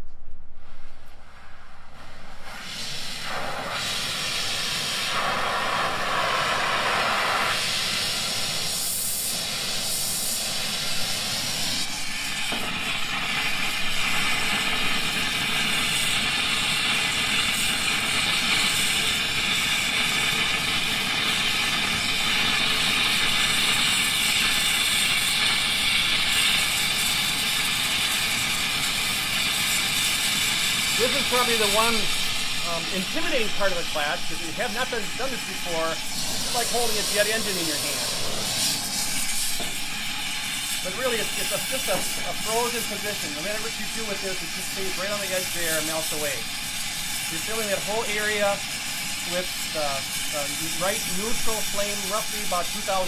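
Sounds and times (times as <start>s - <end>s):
gas torch flame hissing: 1.0s - 53.0s.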